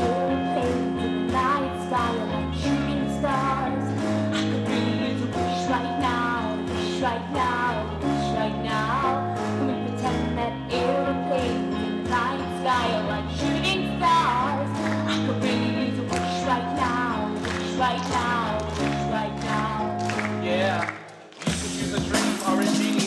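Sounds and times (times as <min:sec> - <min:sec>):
instrumental backing track: 0:00.0 - 0:23.0.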